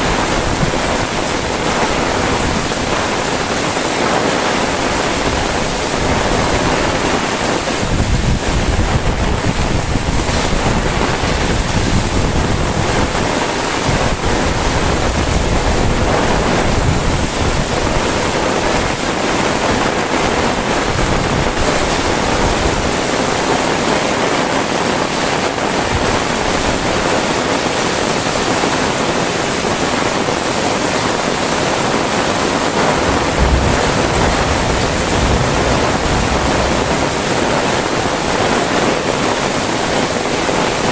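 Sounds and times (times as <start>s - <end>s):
wind buffeting microphone: 0.0s - 23.5s, 31.2s - 40.9s
heavy rain falling: 0.0s - 40.9s.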